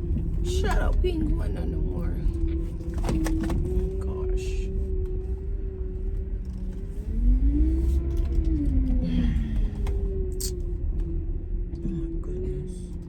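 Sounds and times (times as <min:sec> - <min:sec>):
truck cab rumble: 0:00.0 - 0:11.1.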